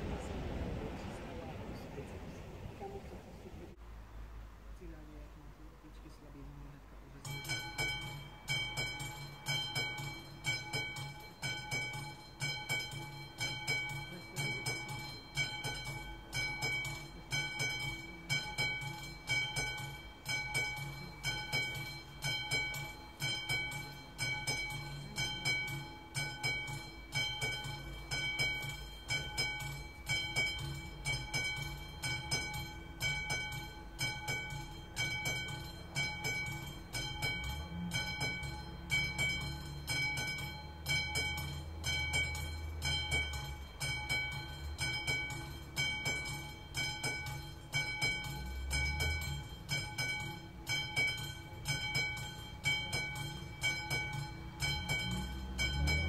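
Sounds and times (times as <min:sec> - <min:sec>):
level crossing warning bell ringing: 0:07.1 - 0:56.0.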